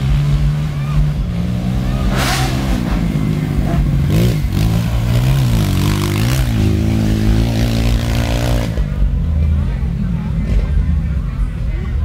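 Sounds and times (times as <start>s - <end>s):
motocross engines revving: 0.0s - 11.6s.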